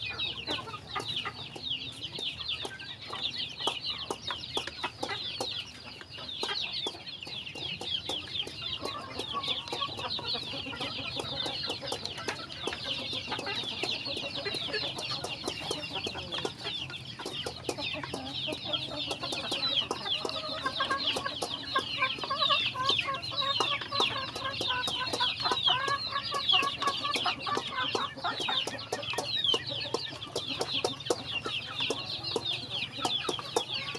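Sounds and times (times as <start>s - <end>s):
chicks peeping: 0.0s - 33.9s
low chicken clucks: 0.0s - 33.9s
sharp pecking ticks: 0.0s - 33.9s.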